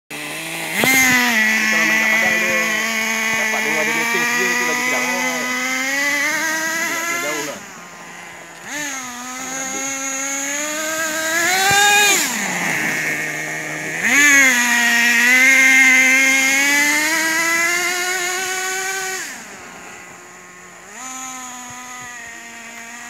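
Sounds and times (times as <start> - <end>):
toy truck motor buzzing: 0.1 - 23.0.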